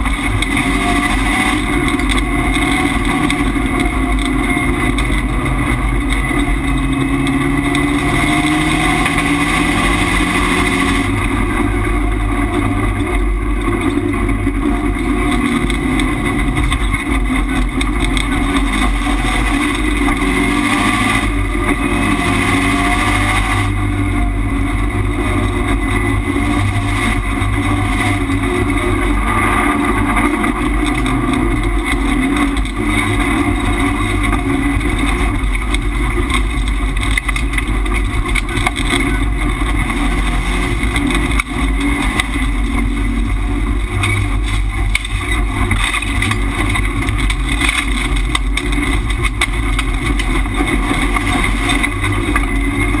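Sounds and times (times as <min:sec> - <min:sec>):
race car engine driven hard: 0:00.0 - 0:53.0.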